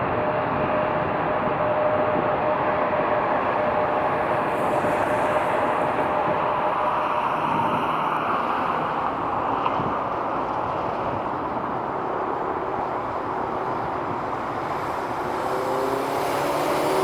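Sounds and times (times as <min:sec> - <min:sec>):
jet engine roar with whine: 0:00.0 - 0:17.0.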